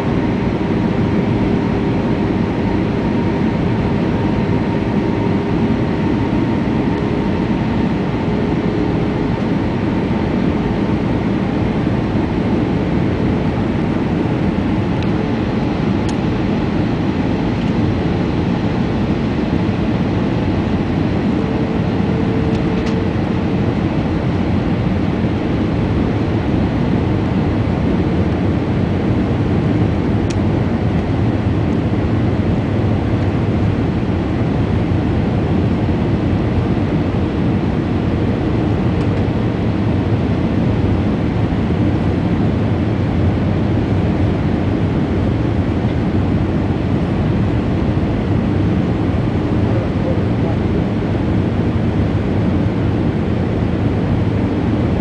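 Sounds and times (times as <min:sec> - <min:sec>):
faint engine hum: 0:00.0 - 0:55.0
jet engines heard from cabin: 0:00.0 - 0:55.0.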